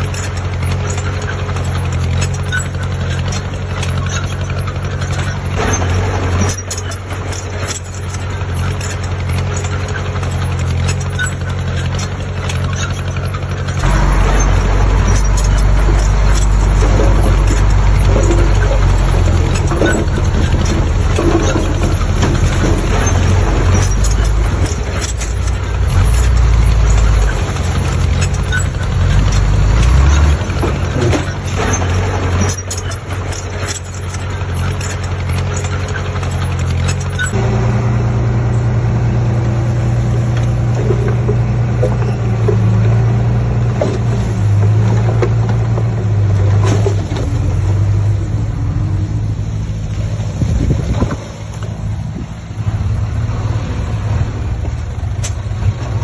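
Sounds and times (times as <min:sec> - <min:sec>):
diesel engine under load: 0:00.0 - 0:56.0
machinery knocks and clatter: 0:00.0 - 0:56.0.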